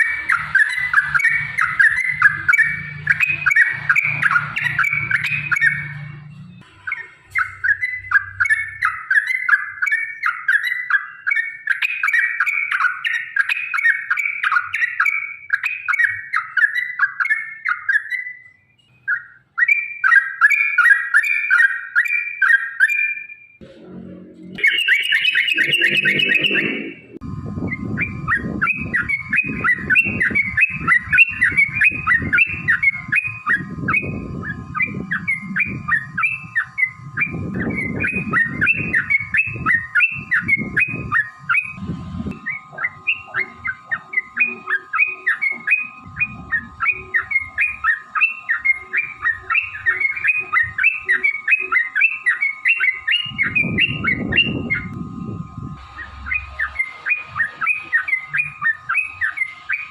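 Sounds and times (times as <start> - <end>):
bird chattering song: 0.0 - 23.5, 24.6 - 55.0, 55.8 - 59.9.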